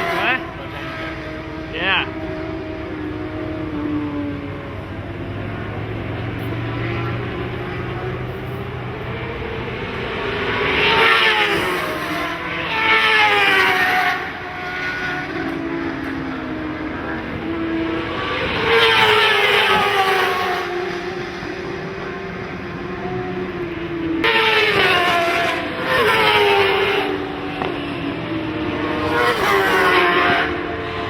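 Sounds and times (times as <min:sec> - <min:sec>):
racing motorcycles passing: 0:00.0 - 0:31.0.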